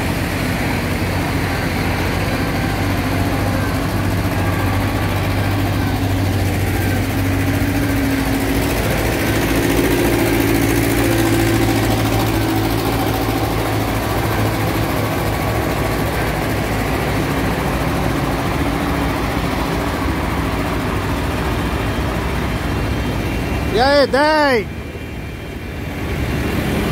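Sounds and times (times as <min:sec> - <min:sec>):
diesel engines running: 0:00.0 - 0:26.9.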